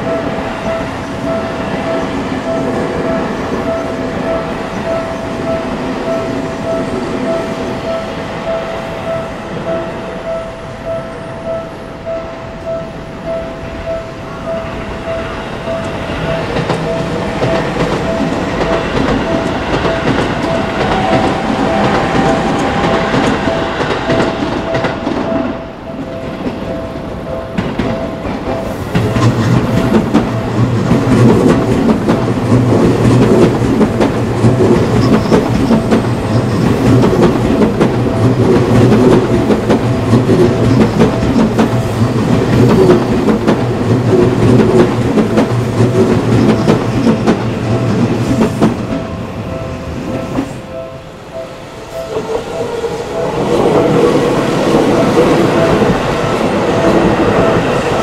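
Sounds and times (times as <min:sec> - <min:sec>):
railway crossing alarm ringing: 0:00.0 - 0:58.0
train rumbling past: 0:00.0 - 0:58.0.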